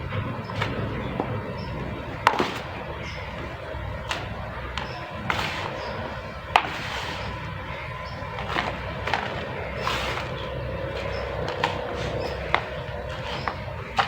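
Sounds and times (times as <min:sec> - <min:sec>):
mud crumbling clicks and cracks: 0:00.0 - 0:14.0.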